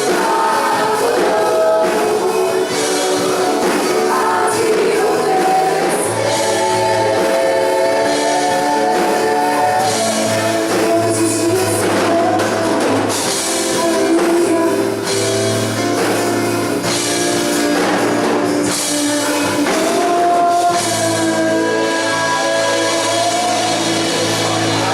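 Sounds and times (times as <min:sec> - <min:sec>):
person singing: 0:00.0 - 0:15.3, 0:18.6 - 0:24.9
live worship band playing: 0:00.0 - 0:24.9.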